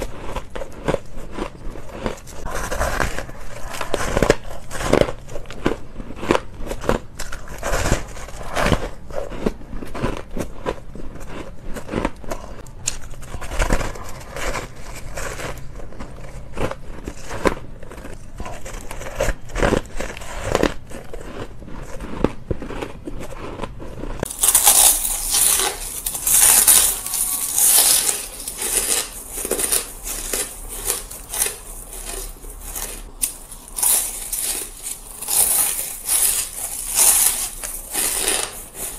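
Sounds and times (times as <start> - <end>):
crunching ice: 0.0 - 38.9.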